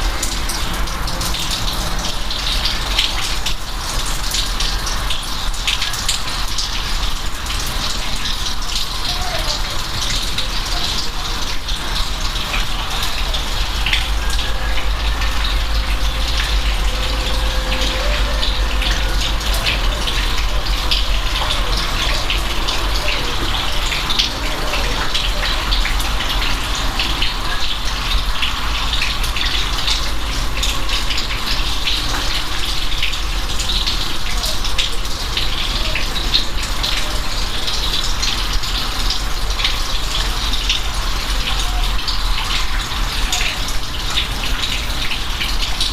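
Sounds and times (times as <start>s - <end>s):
raindrop ticks: 0.0s - 45.9s
steady rain falling: 0.0s - 45.9s.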